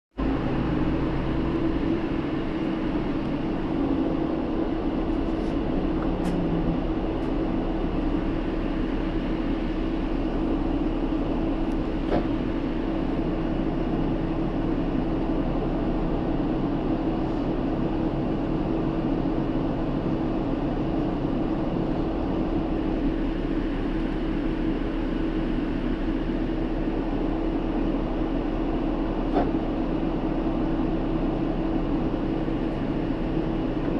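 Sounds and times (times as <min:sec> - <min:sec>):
bus engine hum: 0:00.1 - 0:33.9.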